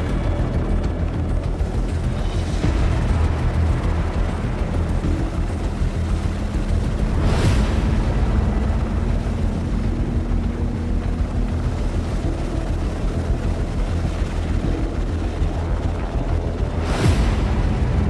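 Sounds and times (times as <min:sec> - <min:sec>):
faint steady whine: 0:00.0 - 0:18.0
helicopter rotor and turbine rumble: 0:00.0 - 0:18.0.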